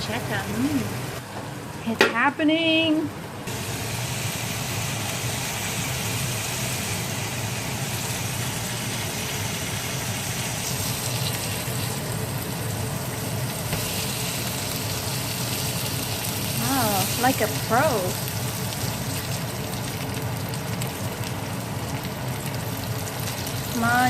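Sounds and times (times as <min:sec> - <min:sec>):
low steady hum: 0:00.0 - 0:24.0
burger patties sizzling in a pan: 0:03.5 - 0:24.0.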